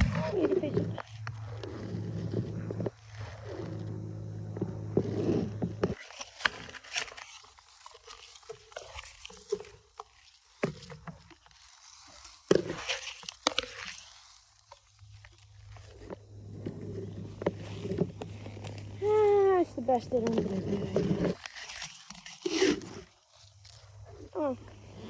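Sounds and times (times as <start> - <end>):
knocks and crunches: 0.0 - 25.0.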